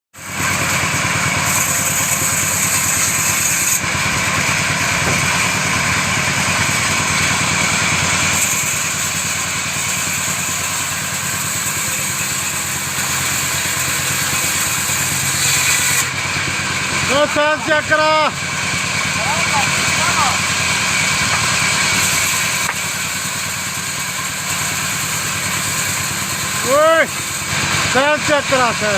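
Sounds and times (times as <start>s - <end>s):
woodworking machine running: 0.2s - 28.9s.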